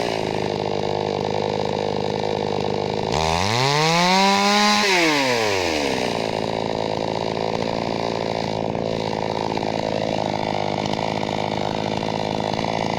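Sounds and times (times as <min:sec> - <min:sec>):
chainsaw engine idling: 0:00.0 - 0:12.9.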